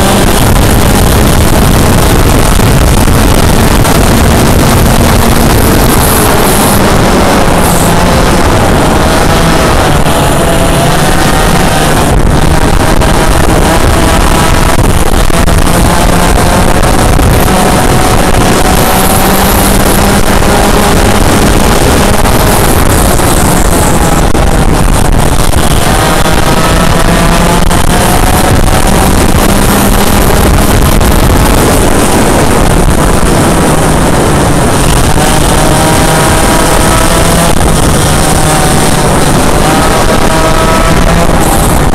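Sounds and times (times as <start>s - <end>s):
kart engine racing: 0.0s - 41.9s
steady rush of noise: 0.0s - 41.9s.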